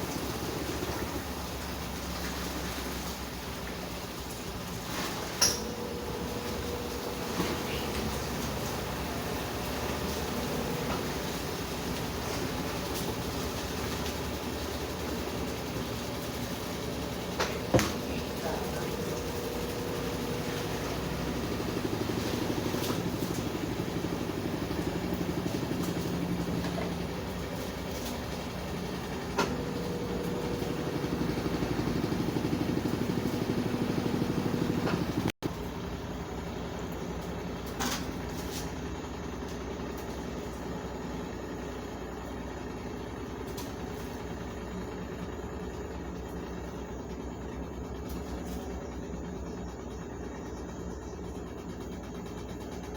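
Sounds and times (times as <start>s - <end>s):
washing machine running: 0.0s - 52.9s.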